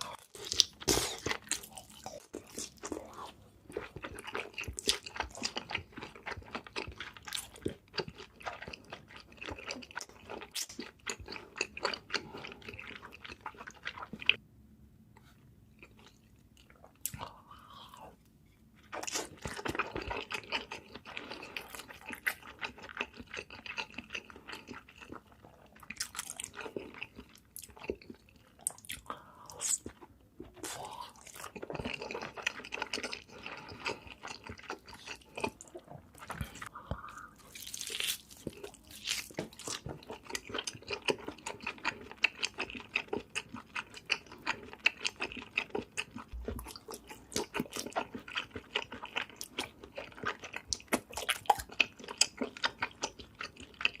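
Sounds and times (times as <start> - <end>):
person chewing and crunching food: 0.0 - 14.4, 15.2 - 54.0.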